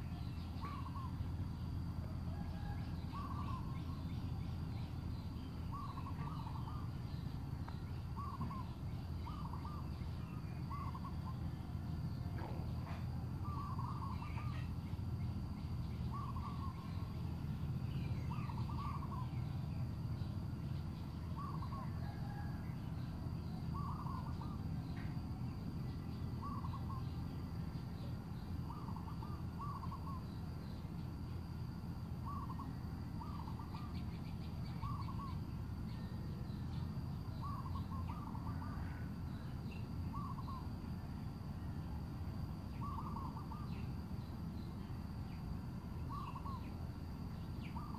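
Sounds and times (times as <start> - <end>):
bird hooting calls: 0.0 - 47.9.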